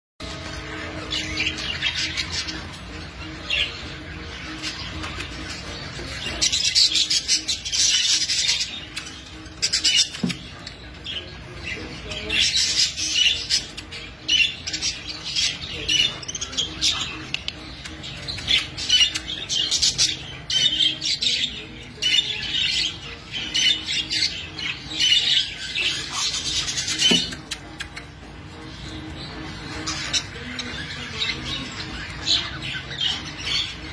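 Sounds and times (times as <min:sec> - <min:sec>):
budgerigars chattering: 0:00.3 - 0:33.9.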